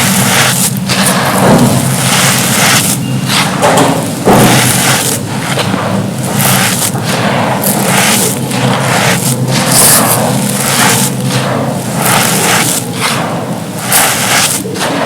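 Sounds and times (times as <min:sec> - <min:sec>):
crumbling cups crunching: 0:00.0 - 0:14.8
steady low rumble: 0:00.0 - 0:15.0.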